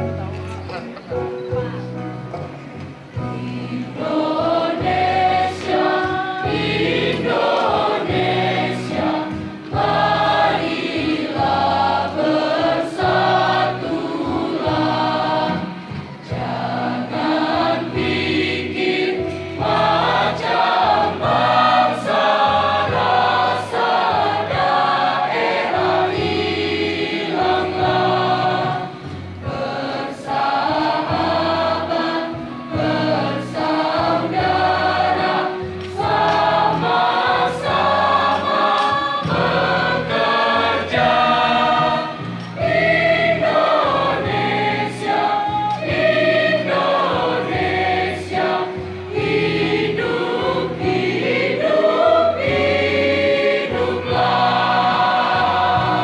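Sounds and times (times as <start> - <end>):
electronic keyboard through loudspeaker: 0.0 - 56.0
children's choir singing: 3.1 - 56.0.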